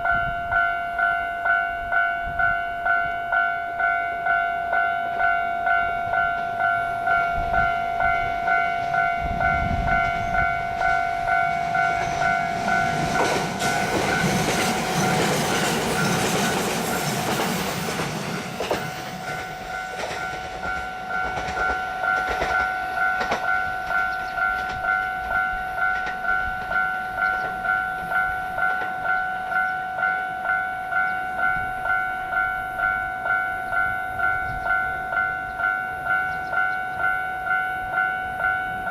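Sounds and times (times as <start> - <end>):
level crossing bell ringing: 0.0 - 16.3, 18.7 - 38.9
electric train passing: 0.0 - 38.9.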